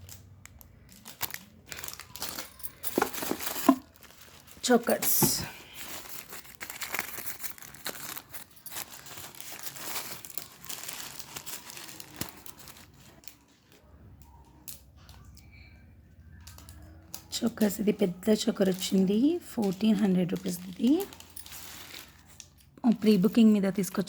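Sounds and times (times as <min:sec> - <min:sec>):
packaging crinkling and rustling: 0:00.0 - 0:14.0, 0:16.3 - 0:23.5.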